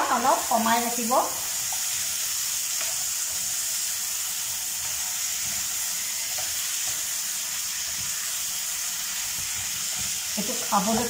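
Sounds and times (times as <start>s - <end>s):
vegetables sizzling in oil: 0.0s - 11.0s
spatula scraping wok: 1.4s - 11.0s.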